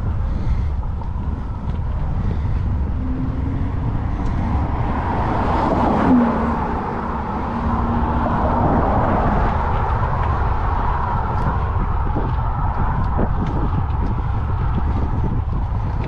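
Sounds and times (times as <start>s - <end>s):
street traffic: 0.0s - 16.0s
wind rumbling on microphone: 0.0s - 16.0s
motor vehicle passing: 0.8s - 16.0s.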